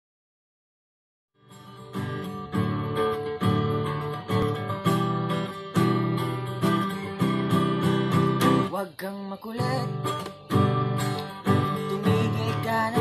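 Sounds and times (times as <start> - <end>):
acoustic guitar strumming: 1.4 - 13.0.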